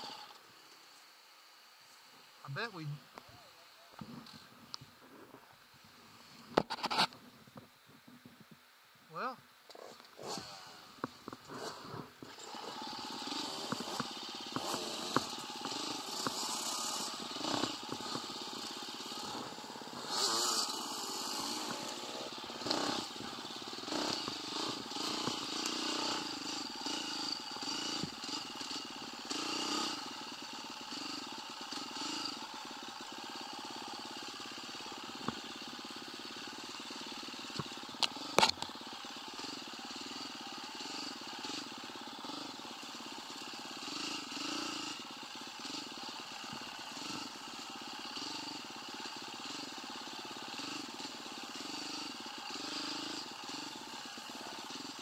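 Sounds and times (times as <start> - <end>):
motorcycle engine running: 9.7 - 55.0.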